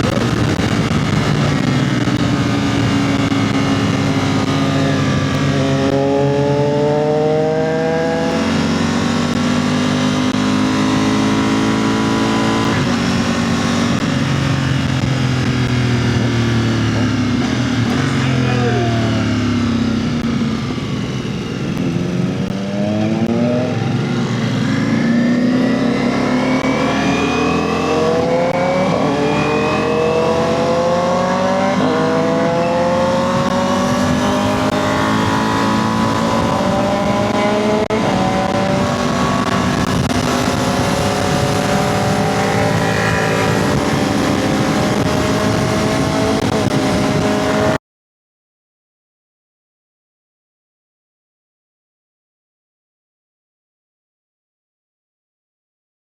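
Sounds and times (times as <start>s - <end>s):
wind noise: 0.0s - 18.3s, 20.1s - 47.8s
motorcycle engines accelerating: 0.0s - 47.8s.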